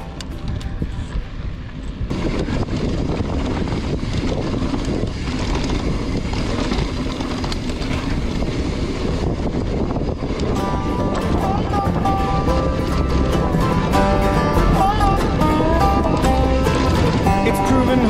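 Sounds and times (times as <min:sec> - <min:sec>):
bike rattling clicks: 0:00.0 - 0:18.0
bike tyre rumble: 0:00.0 - 0:18.0
wind noise on microphone: 0:00.0 - 0:18.0.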